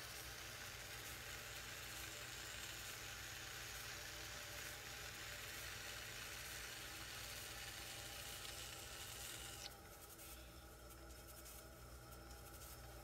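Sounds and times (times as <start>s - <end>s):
pottery wheel motor hum: 0.0s - 13.0s.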